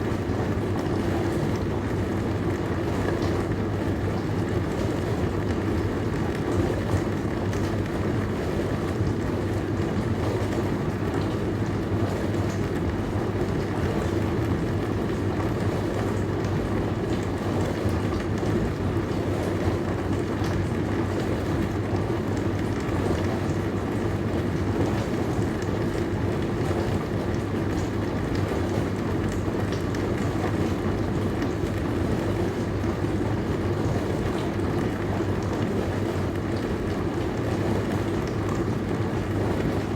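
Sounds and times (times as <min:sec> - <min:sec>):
dishwasher motor hum: 0:00.0 - 0:39.9.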